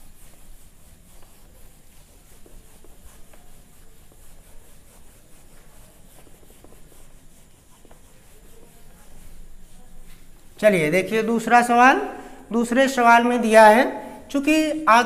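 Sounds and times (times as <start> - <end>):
eraser rubbing a whiteboard: 0.0 - 15.0.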